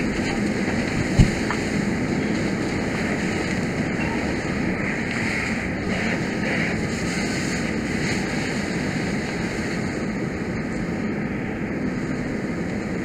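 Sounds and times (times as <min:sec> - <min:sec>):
fire engine pump running: 0:00.0 - 0:13.0
fire hose spraying water: 0:00.0 - 0:13.0.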